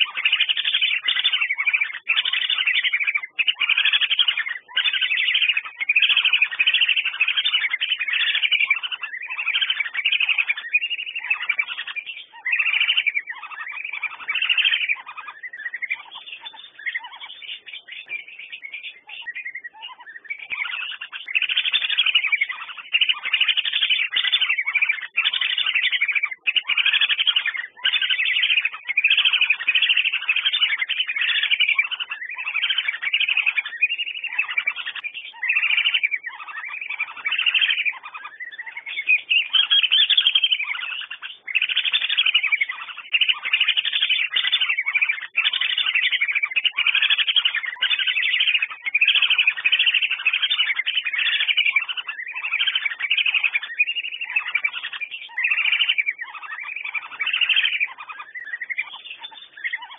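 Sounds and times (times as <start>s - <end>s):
ducks whistling calls: 0.0s - 59.9s.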